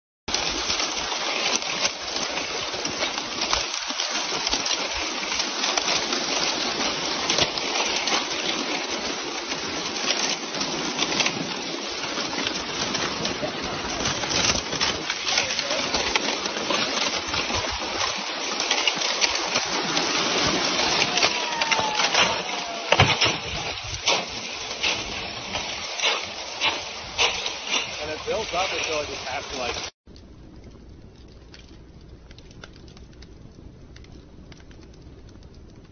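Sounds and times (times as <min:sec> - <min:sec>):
lake ice plates tinkling and clinking: 0:00.3 - 0:29.8.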